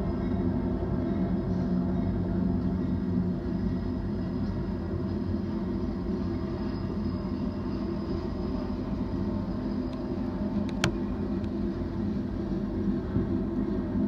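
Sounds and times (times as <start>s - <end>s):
freight train passing: 0.0s - 14.0s.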